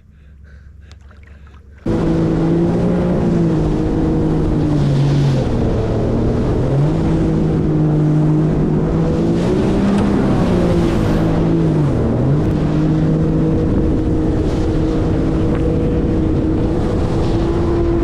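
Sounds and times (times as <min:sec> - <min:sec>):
jet ski engine running: 0:00.0 - 0:18.0
water and wind rushing: 0:00.8 - 0:18.0.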